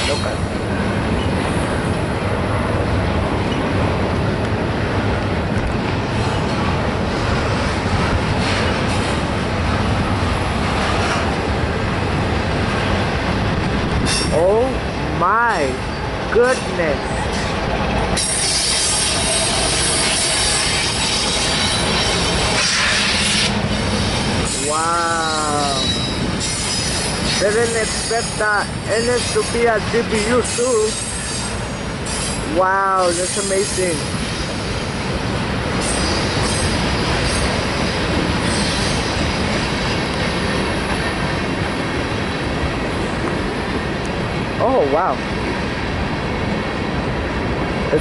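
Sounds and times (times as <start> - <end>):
freight train passing: 0.0 - 48.0
wheels rumbling on rail: 0.0 - 48.0.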